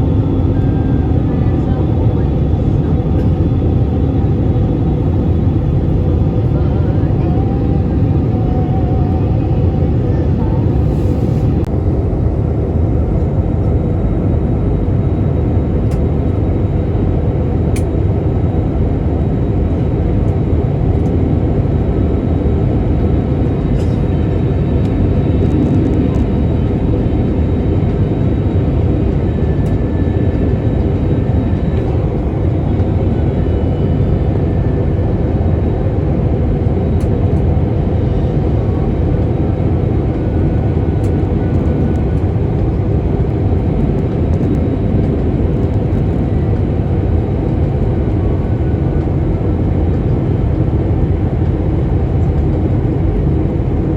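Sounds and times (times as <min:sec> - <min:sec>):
deep drone of jet engines: 0:00.0 - 0:53.9.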